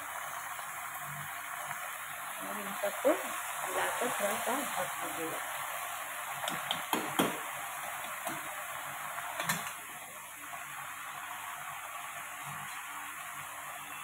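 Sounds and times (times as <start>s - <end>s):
greens sizzling in a pan: 0.0s - 14.0s.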